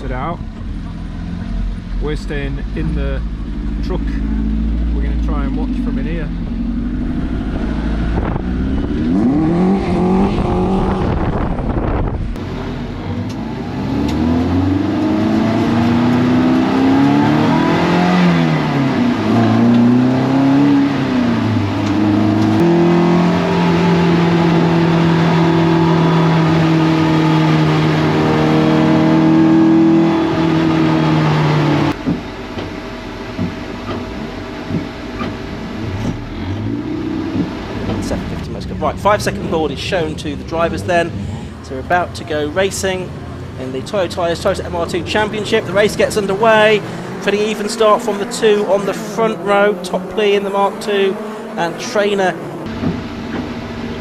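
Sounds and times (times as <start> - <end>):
race car engine revving: 0.0 - 32.6, 33.2 - 54.0.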